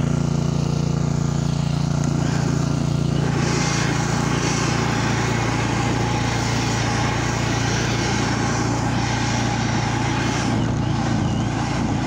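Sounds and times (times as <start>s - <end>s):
snowblower engine running: 0.0s - 12.0s.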